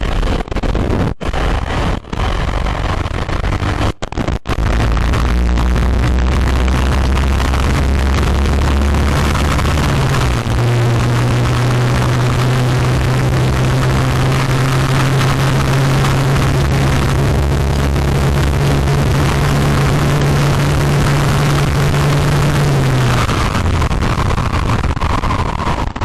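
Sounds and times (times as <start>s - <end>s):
wind rushing over microphone: 0.0s - 26.0s
motorcycle engine cruising: 1.2s - 26.0s.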